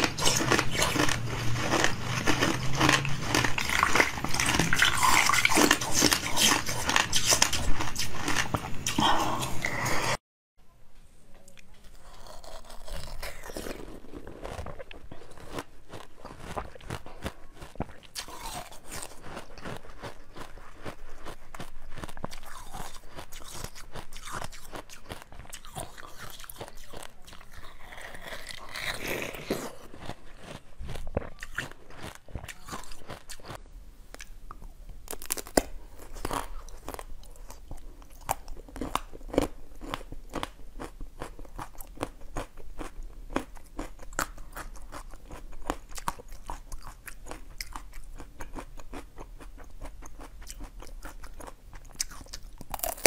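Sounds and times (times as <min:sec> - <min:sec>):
crisp crunching of frozen bar: 0:00.0 - 0:09.0, 0:12.0 - 0:33.6, 0:35.1 - 0:53.0.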